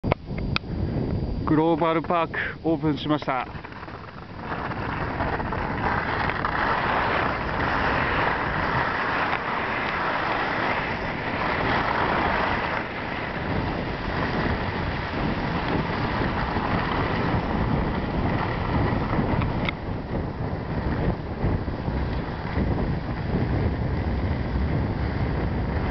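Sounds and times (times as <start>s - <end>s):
steady rushing noise: 0.0s - 25.9s.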